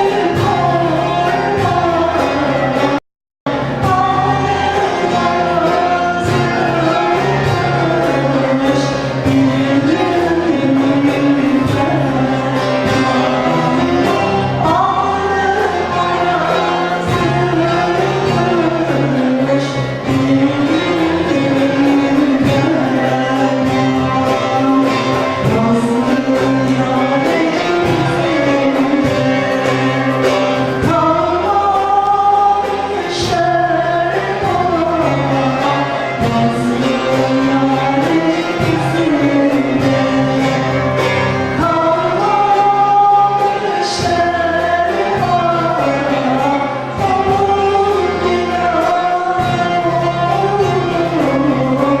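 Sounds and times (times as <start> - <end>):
folk choir singing: 0.0 - 52.0
instrumental accompaniment: 0.0 - 52.0.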